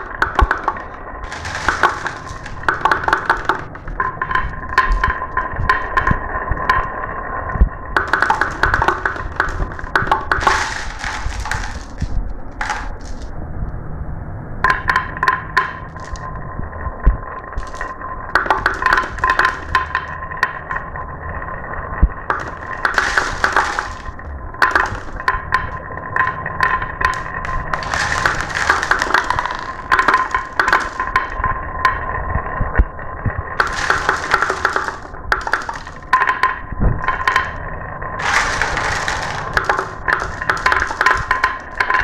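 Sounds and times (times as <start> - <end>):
marbles clattering: 0.0 - 13.3, 14.6 - 16.3, 17.2 - 21.2, 22.0 - 32.6, 33.2 - 42.0
marbles rolling down a track: 0.0 - 13.3, 14.6 - 16.4, 17.2 - 42.0.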